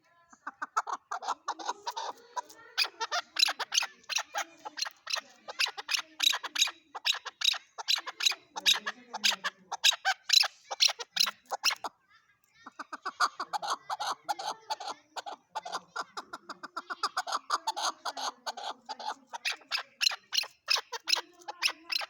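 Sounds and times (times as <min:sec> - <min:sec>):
partridge calling: 0:00.4 - 0:11.9, 0:12.7 - 0:22.0.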